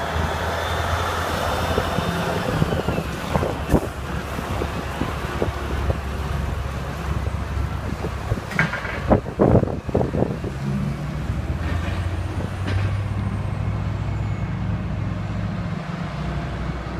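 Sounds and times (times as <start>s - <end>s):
lorry diesel engine pulling away: 0.0s - 16.9s.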